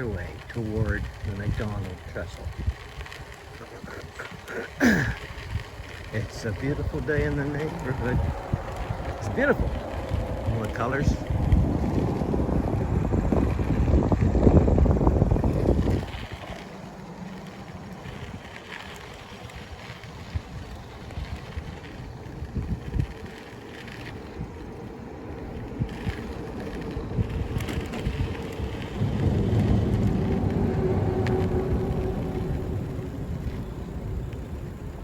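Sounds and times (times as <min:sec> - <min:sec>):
bike rolling knocks: 0:00.0 - 0:35.0
wind rumbling on microphone: 0:00.0 - 0:35.0.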